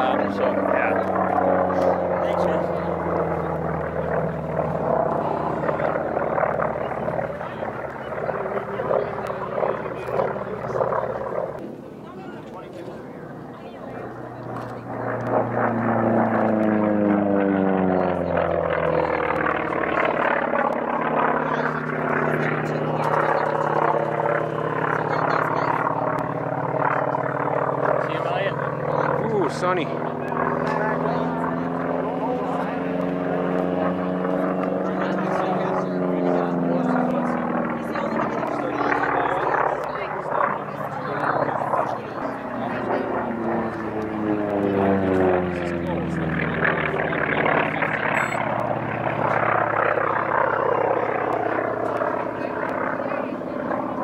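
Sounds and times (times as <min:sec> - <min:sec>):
propeller airplane engine: 0:00.0 - 0:54.0.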